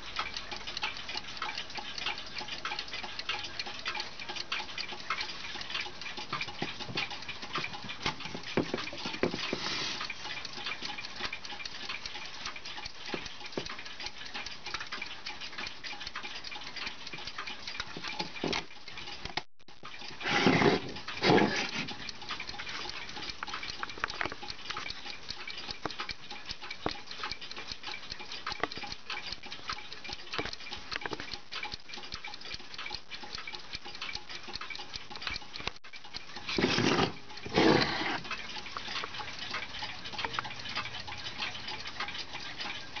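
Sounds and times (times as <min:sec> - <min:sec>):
clock ticking: 0:00.0 - 0:43.0.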